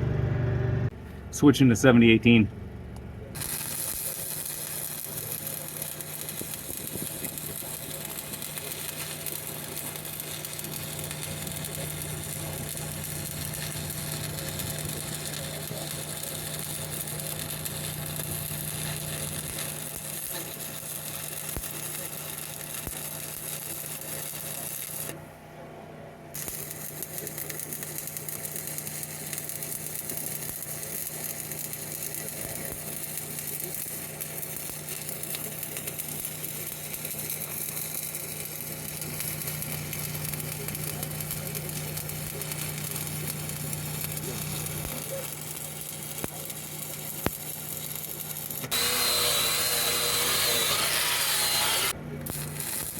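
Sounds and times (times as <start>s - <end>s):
engine-driven welder humming: 0.0s - 25.3s, 26.3s - 52.9s
welding arc crackling and sizzling: 3.4s - 25.2s, 26.4s - 52.9s.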